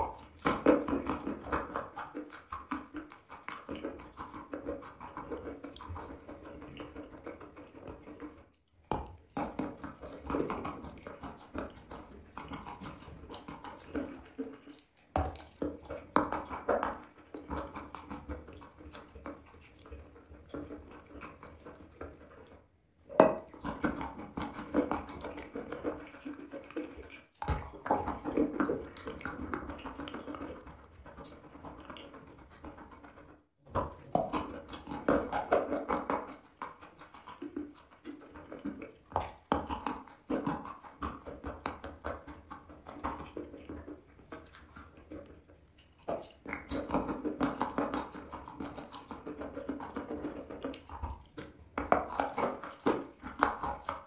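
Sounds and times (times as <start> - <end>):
wet crunching and chewing: 0.0 - 54.0.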